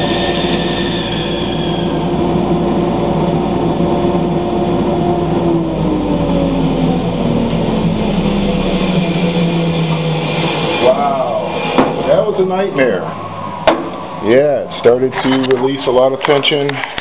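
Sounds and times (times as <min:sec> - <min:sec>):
motor spinning down: 0:00.0 - 0:16.1
motors humming: 0:00.0 - 0:16.7.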